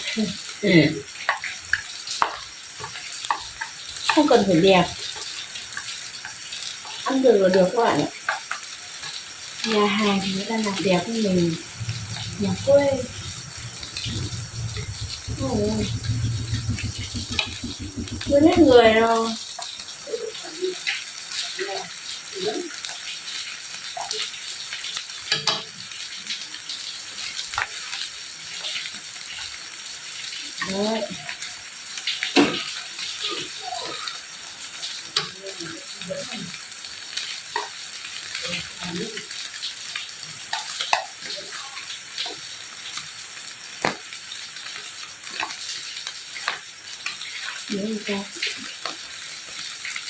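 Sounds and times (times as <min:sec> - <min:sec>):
food sizzling in a frying pan: 0:00.0 - 0:17.2, 0:17.8 - 0:50.0.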